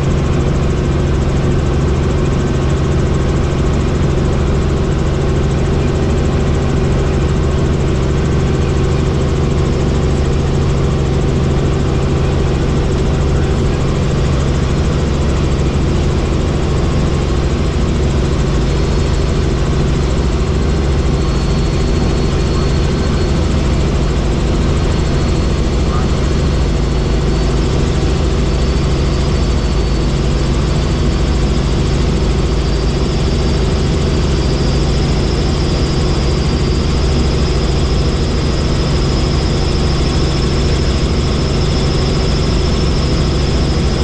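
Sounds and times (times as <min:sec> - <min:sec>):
helicopter engine and rotor drone: 0:00.0 - 0:44.0.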